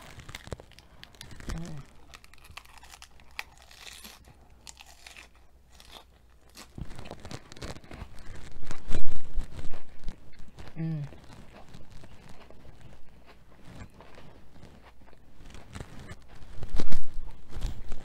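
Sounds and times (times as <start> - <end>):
lettuce wrap crunching: 0.0 - 18.0.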